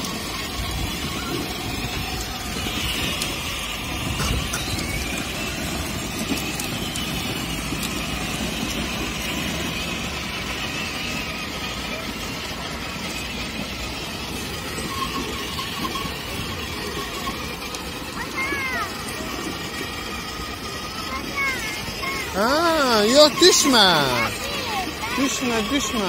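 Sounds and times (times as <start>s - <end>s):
plastic wheels rumbling on paving: 0.0s - 26.0s
small electric motor running: 0.0s - 26.0s.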